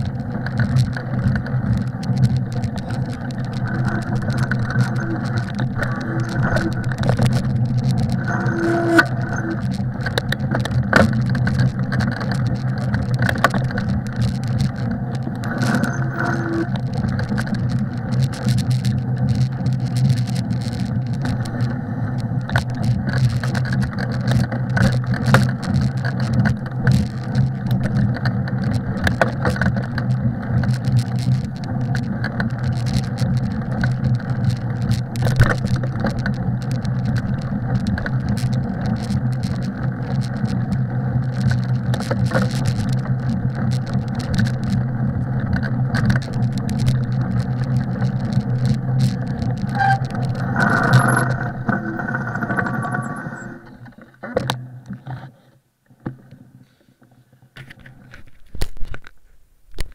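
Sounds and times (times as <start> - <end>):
bicycle low drone: 0.0 - 55.0
bicycle clicks and rattles: 0.0 - 55.3, 57.6 - 59.9.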